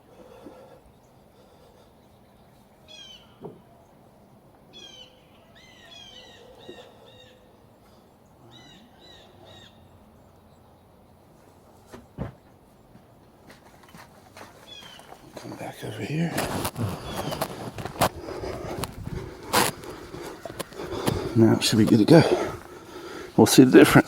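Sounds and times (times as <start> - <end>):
faint outdoor background noise: 0.0 - 24.0
songbird chirping: 0.0 - 24.0.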